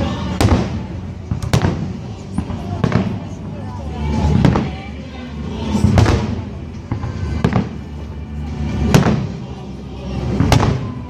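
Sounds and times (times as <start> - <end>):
fireworks bangs: 0.0 - 9.4, 10.2 - 11.0
music playing: 0.0 - 11.0.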